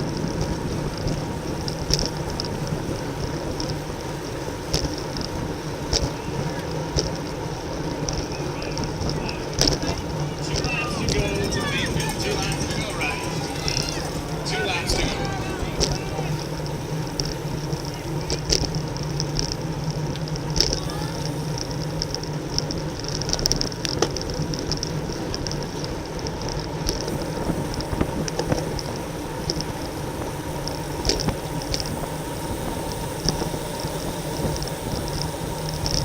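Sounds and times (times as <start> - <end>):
bike riding hum: 0.0 - 36.0
sharp bike clicks: 0.0 - 36.0.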